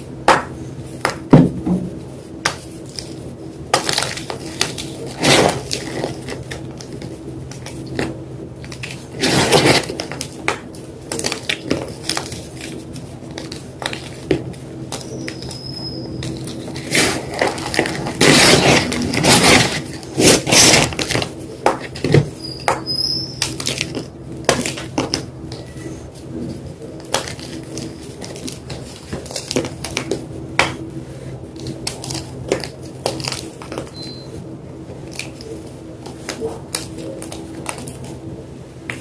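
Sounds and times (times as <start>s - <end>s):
chalk crunching and crackling: 2.2s - 33.9s.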